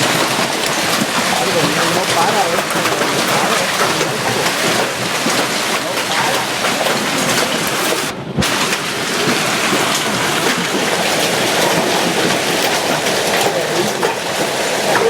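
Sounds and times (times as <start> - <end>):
hail pelting down: 0.0 - 15.0.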